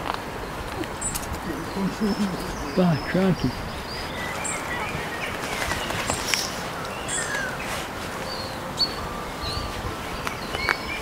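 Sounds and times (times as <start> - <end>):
small birds chirping: 0.0 - 11.0
steady outdoor hiss: 0.0 - 11.0.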